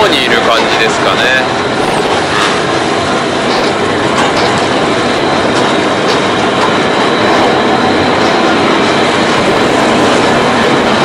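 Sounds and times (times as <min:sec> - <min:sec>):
churning wake water: 0:00.0 - 0:11.0
ferry engine rumble: 0:00.0 - 0:11.0.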